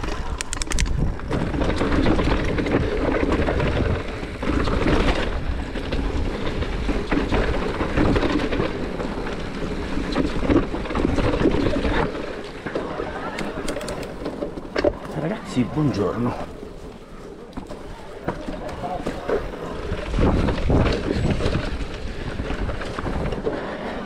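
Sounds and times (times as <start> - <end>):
bike clattering over stones: 0.0 - 24.0
bike tyres rumbling on dirt: 0.0 - 24.0.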